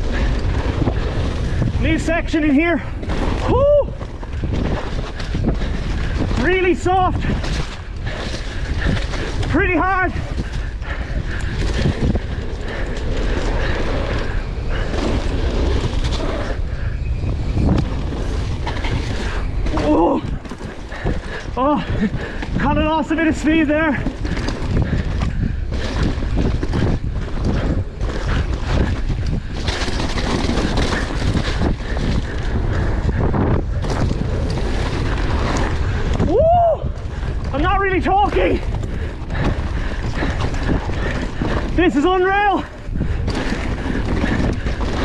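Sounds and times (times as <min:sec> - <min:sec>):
bike clicks and rattles: 0:00.0 - 0:45.0
tyres rumbling on dirt trail: 0:00.0 - 0:45.0
wind rushing over microphone: 0:00.0 - 0:45.0.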